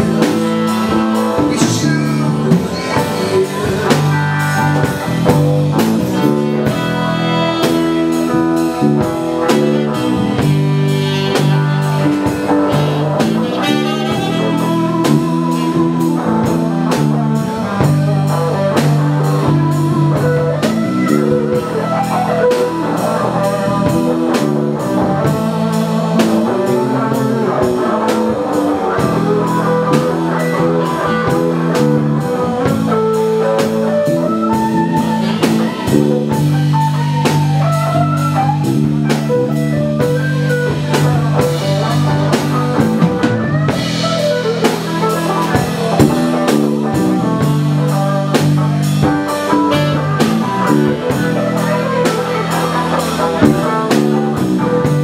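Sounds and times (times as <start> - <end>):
electric guitar: 0.0 - 55.0
live dance band playing: 0.0 - 55.0.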